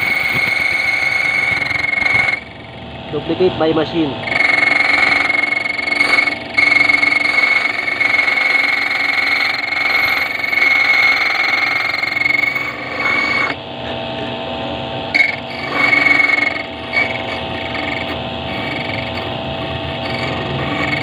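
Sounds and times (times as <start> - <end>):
key cutting machine whine: 0.0 - 21.0.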